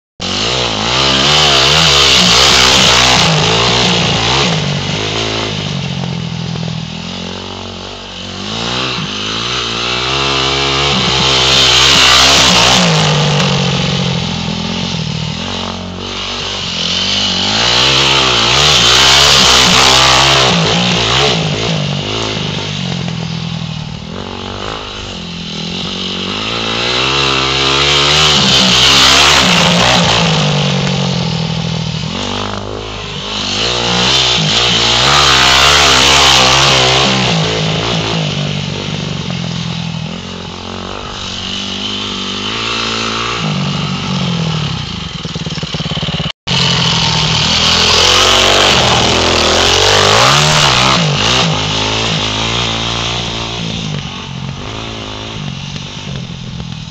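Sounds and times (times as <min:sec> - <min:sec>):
dirt bike engine revving: 0:00.2 - 0:56.9.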